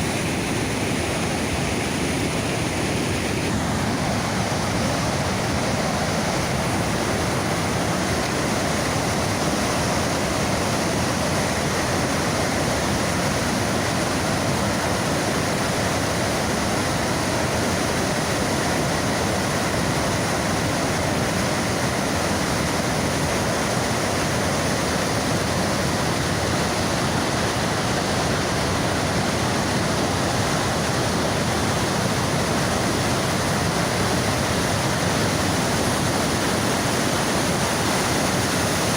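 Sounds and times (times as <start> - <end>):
roar of rushing white water: 0.0 - 38.9.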